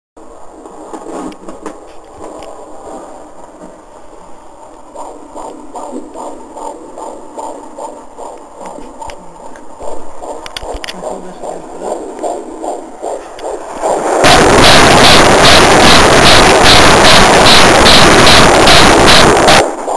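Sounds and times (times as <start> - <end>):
fetal heartbeat whooshing beats: 0.2 - 19.9.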